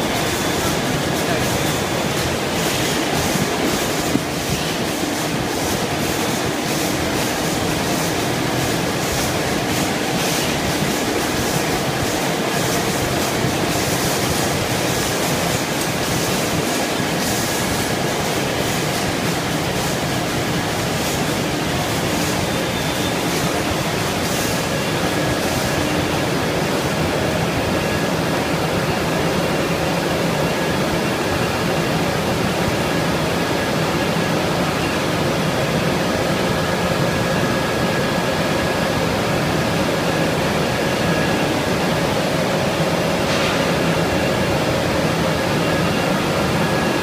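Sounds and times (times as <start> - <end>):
factory machinery running: 0.0 - 47.0.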